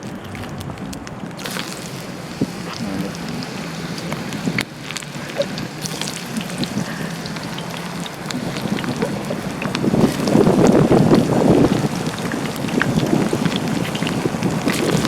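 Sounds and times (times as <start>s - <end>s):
chicken sizzling in hot oil: 1.4s - 15.0s.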